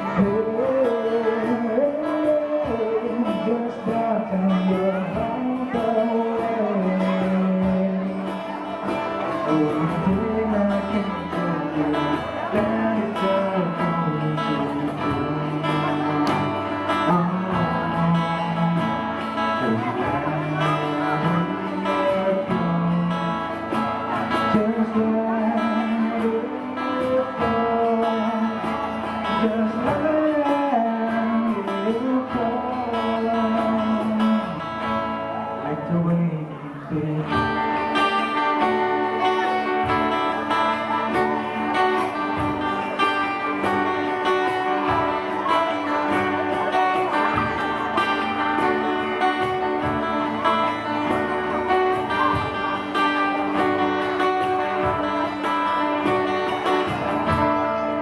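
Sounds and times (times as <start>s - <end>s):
guitar accompaniment: 0.0s - 58.0s
person singing: 0.0s - 58.0s.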